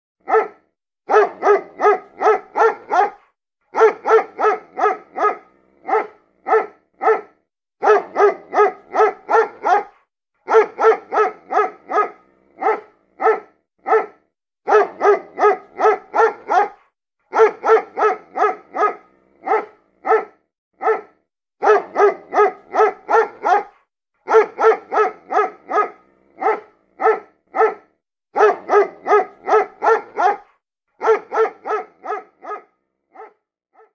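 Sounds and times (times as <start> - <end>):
dog barking: 0.2 - 33.9.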